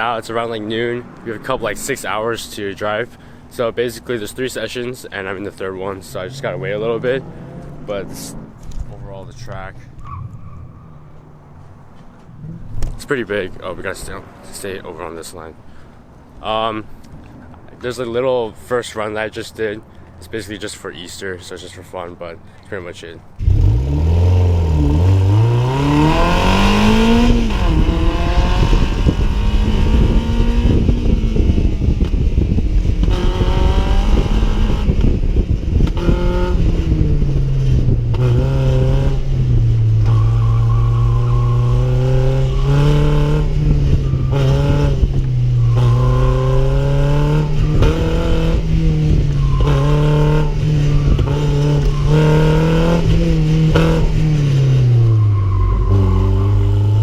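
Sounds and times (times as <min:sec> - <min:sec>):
car engine driven hard: 0:00.0 - 0:14.9, 0:23.4 - 0:57.0.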